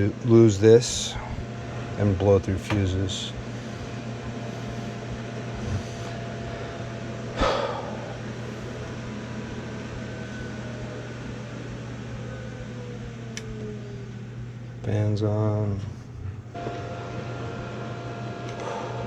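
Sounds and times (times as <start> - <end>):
motor whine spinning down: 0.0 - 14.8, 15.8 - 19.0
heating equipment humming: 0.0 - 19.0.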